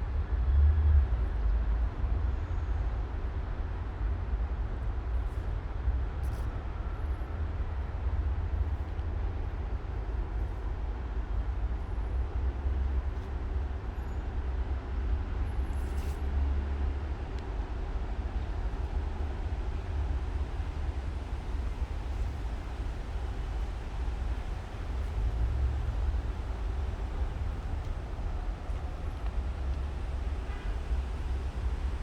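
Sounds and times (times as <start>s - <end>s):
low outdoor rumble with hiss: 0.0s - 32.0s.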